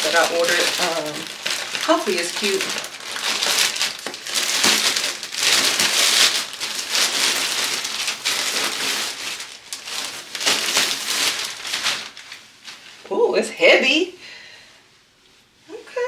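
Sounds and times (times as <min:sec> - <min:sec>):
package crinkling and rustling: 0:00.0 - 0:13.1.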